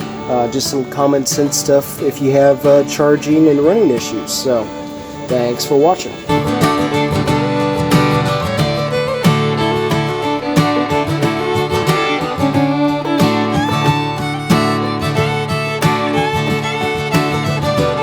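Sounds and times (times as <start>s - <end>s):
fiddle: 0.0s - 18.0s
plucked guitar: 0.0s - 18.0s.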